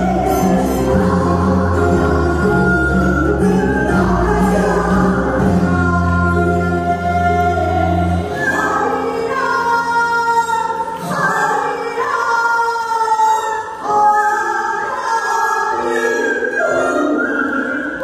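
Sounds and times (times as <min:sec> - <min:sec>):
amplified instrumental accompaniment: 0:00.0 - 0:18.0
woman singing folk song: 0:00.0 - 0:18.0.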